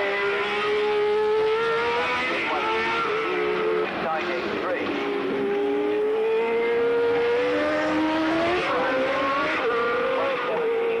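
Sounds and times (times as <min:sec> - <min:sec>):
gear changes: 0:00.0 - 0:11.0
race car engine at high revs: 0:00.0 - 0:11.0.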